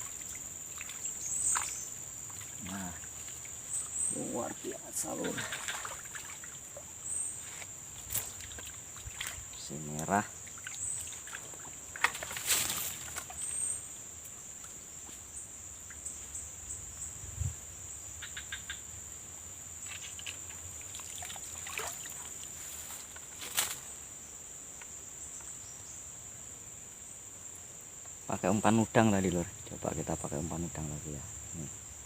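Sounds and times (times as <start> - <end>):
insects shrilling: 0.0 - 32.0.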